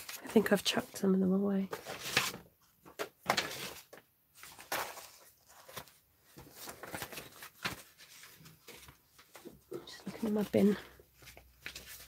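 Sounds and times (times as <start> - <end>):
cardstock rustling and scraping: 1.7 - 12.0.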